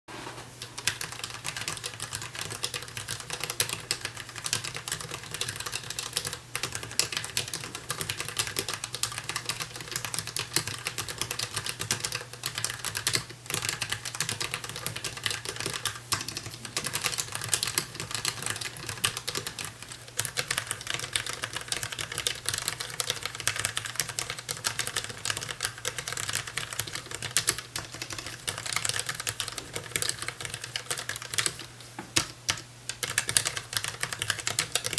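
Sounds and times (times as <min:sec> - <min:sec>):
mechanical keyboard typing: 0:00.7 - 0:34.9.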